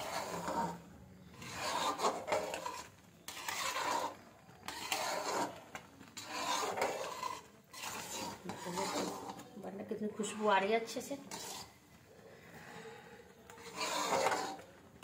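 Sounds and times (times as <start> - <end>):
spoon scraping and stirring a pan: 0.0 - 15.0.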